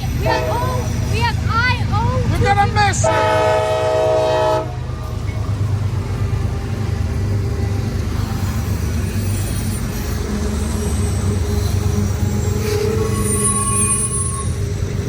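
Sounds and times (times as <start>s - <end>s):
diesel train rumbling by: 0.0s - 15.0s.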